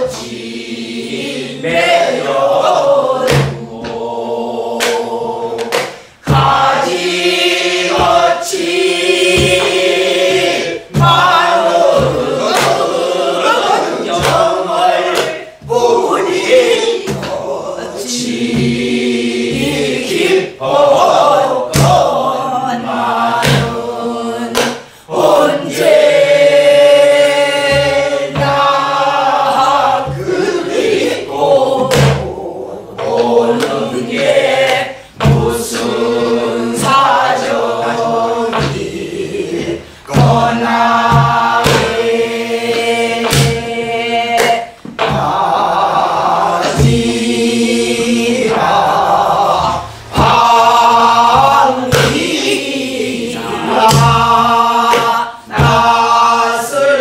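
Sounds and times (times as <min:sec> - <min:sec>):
group singing folk song: 0:00.0 - 0:57.0
barrel drum striking: 0:03.2 - 0:04.0, 0:04.8 - 0:17.5, 0:18.2 - 0:22.3, 0:23.4 - 0:24.8, 0:25.5 - 0:52.7, 0:53.4 - 0:56.5.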